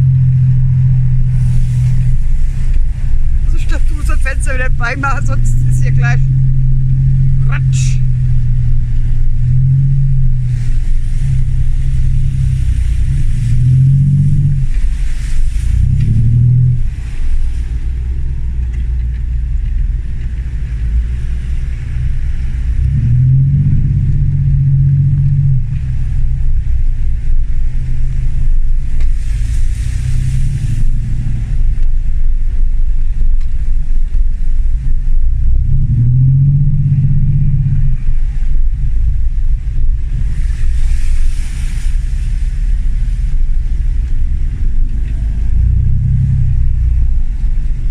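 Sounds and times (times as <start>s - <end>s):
diesel engine revving: 0.0s - 47.9s.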